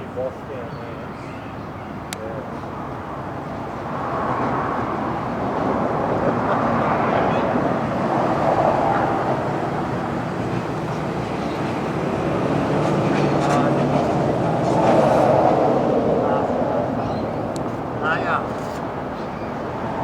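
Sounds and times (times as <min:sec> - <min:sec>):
passing vehicle: 0:02.5 - 0:20.0.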